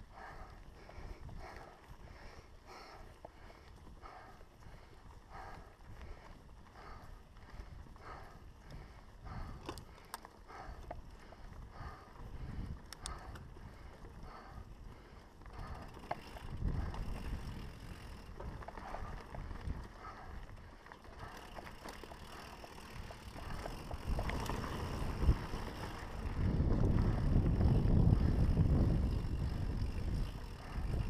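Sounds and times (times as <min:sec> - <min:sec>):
bike tyres rolling on dirt: 0:00.0 - 0:31.0
wind rumble: 0:00.0 - 0:31.0
bike rattling over bumps: 0:00.1 - 0:31.0.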